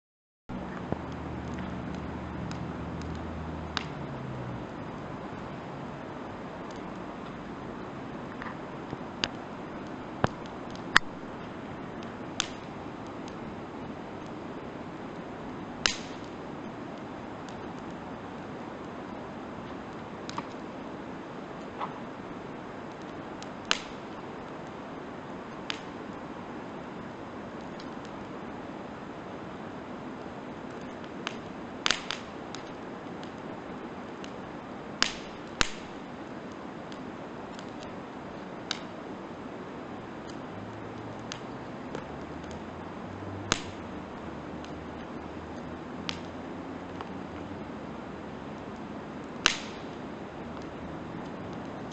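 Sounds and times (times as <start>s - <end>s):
campfire crackling and popping: 0.6s - 51.9s
steady hiss: 0.6s - 51.9s.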